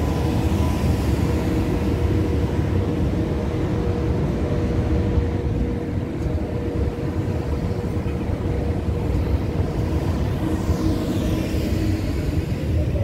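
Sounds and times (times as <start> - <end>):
electric train hum: 0.0 - 13.0
electric train rumble: 0.0 - 13.0.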